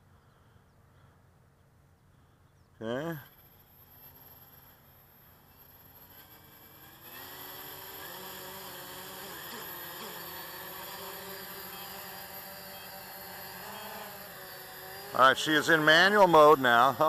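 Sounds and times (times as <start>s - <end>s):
quadcopter motors buzzing: 2.3s - 17.0s.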